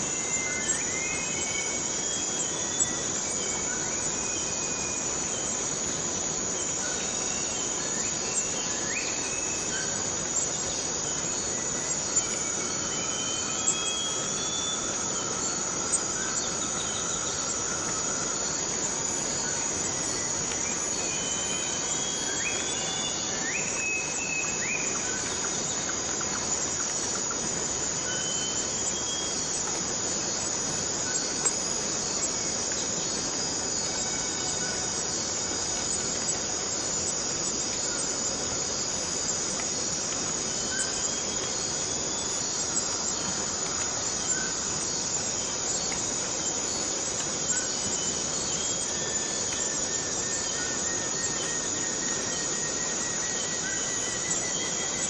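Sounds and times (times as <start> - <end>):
background hiss: 0.0 - 55.0
cicadas droning: 0.0 - 55.0.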